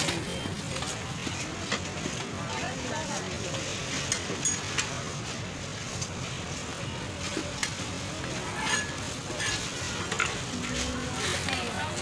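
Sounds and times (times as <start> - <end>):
busy street market: 0.0 - 12.0.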